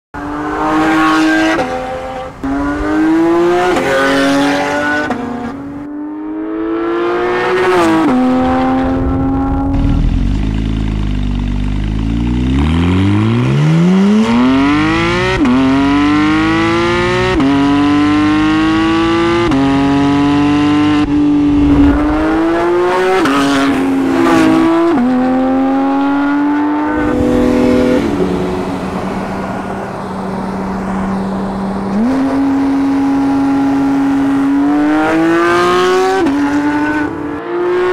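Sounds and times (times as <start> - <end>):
car engine accelerating through gears: 0.2 - 37.9.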